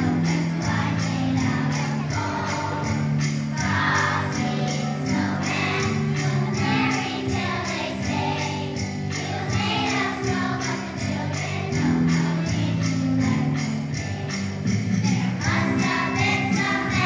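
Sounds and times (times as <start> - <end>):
children's choir singing: 0.0 - 17.0
jingle bells shaking: 0.0 - 17.0
musical accompaniment: 0.0 - 17.0.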